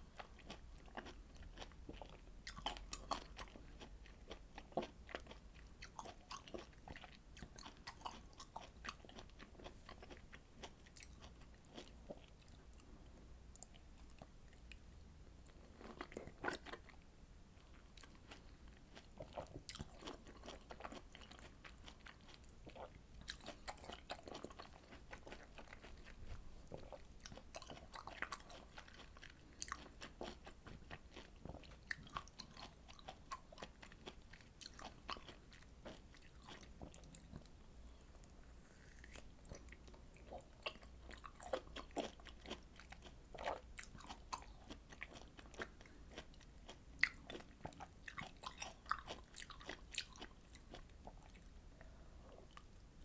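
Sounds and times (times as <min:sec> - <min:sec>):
chewing citrus fruit: 0:00.1 - 0:12.9, 0:15.4 - 0:17.0, 0:17.6 - 0:52.8.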